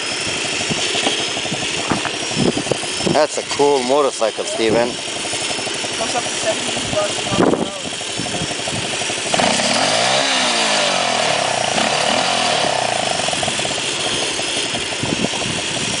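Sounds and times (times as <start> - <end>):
small motorcycle engine passing by: 0.0 - 16.0.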